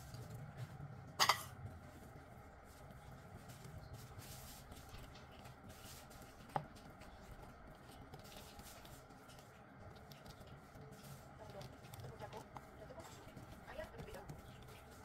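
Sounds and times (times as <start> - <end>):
fork mixing cookie dough: 1.7 - 15.0.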